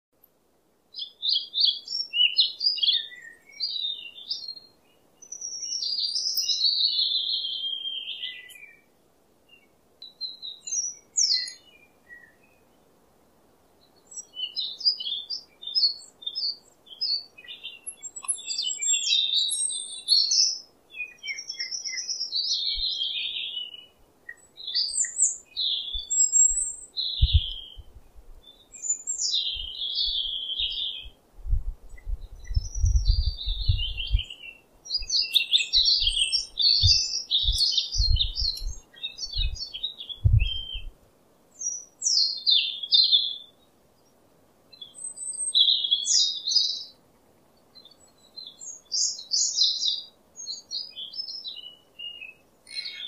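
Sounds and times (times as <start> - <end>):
birds singing: 0.9 - 8.9, 9.5 - 12.9, 13.7 - 31.2, 31.8 - 47.0, 47.6 - 53.0.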